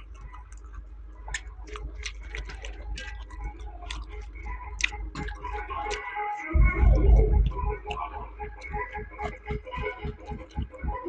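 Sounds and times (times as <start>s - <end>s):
chewing food: 0.0s - 11.0s
steady low hum: 0.0s - 11.0s.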